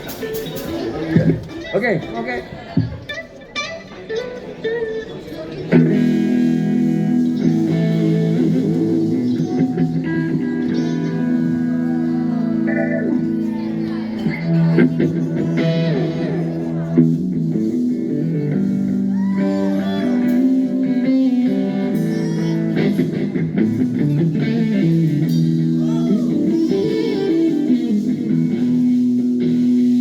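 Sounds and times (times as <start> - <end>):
electric guitar lead: 0.0 - 30.0
live rock music: 0.0 - 30.0.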